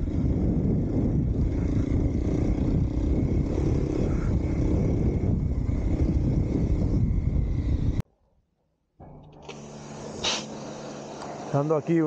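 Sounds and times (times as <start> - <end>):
motorcycle engine running: 0.0 - 8.0, 9.0 - 12.0.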